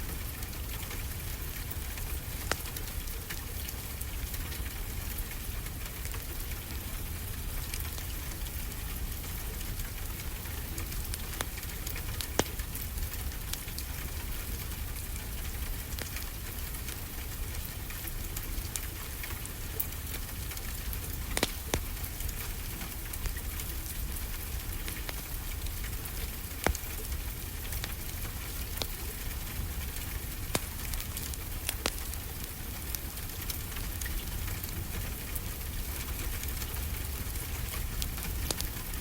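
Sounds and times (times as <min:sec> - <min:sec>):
rain hiss: 0:00.0 - 0:39.0
wood fire crackling: 0:00.0 - 0:39.0.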